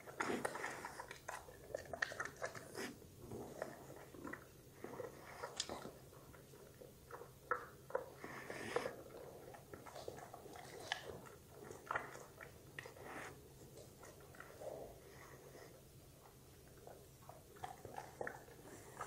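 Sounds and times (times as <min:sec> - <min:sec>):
dog chewing raw vegetable: 0:00.0 - 0:19.0.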